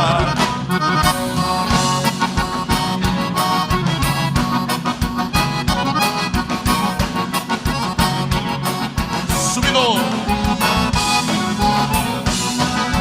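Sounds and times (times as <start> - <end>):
accordion melody: 0.0 - 13.0
bass line: 0.0 - 13.0.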